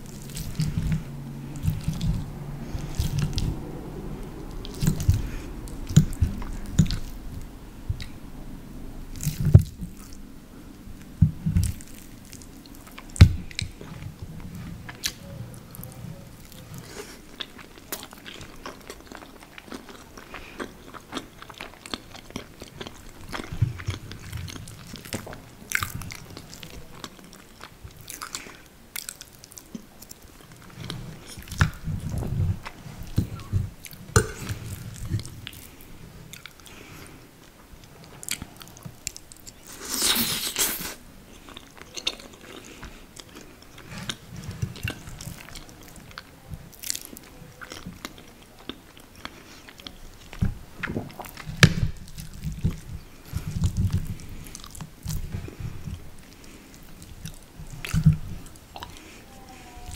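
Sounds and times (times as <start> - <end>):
person chewing: 0.0 - 8.3, 9.1 - 59.9.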